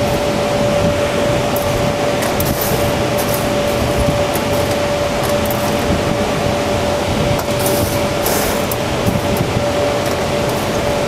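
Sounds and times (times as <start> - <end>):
large blower whining: 0.0 - 11.0.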